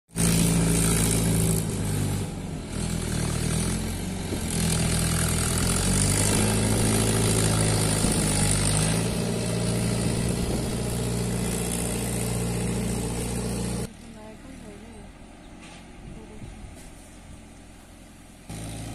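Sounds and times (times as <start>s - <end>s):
tractor diesel engine running: 0.1s - 18.9s.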